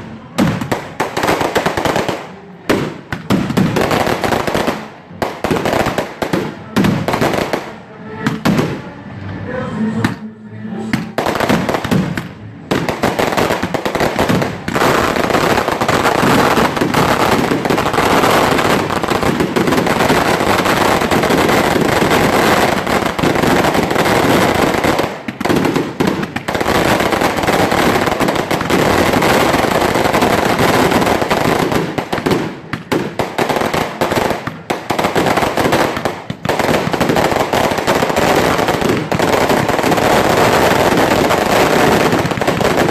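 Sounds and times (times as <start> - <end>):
fireworks bangs: 0.0 - 9.0, 10.9 - 42.9.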